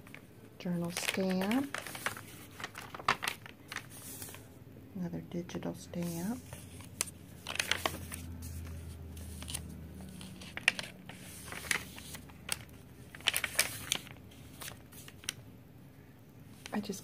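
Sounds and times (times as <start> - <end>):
paper pages rustling: 0.0 - 4.5, 5.9 - 15.4.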